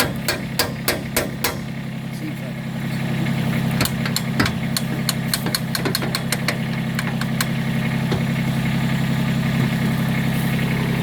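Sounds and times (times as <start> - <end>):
diesel tractor engine idling: 0.0 - 11.0.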